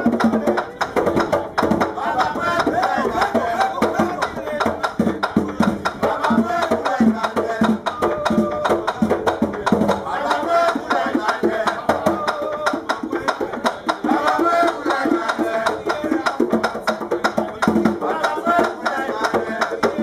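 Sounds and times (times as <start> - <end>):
hand drum beating: 0.0 - 20.0
voices singing: 0.0 - 20.0
sharp rhythmic clicks: 0.1 - 20.0.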